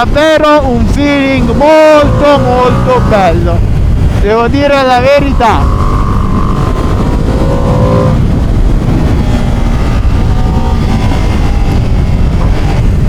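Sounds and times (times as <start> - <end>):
motorcycle engine and exhaust: 0.0 - 13.0
wind rumble on microphone: 0.0 - 13.0.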